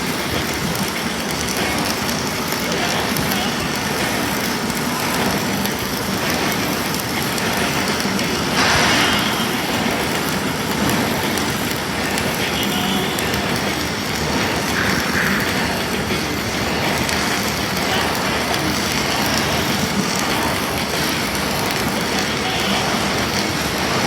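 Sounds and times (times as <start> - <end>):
welding arc hissing and crackling: 0.0 - 24.0.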